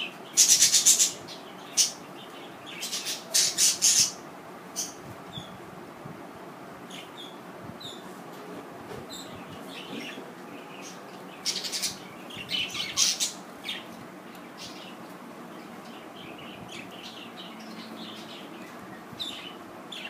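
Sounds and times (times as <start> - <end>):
budgerigars chirping and chattering: 0.0 - 5.6, 9.1 - 20.0.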